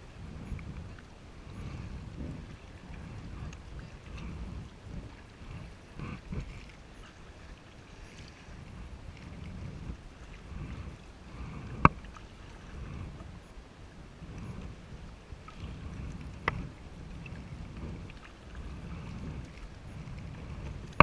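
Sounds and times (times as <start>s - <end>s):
paddle swishing through water: 0.0s - 21.0s.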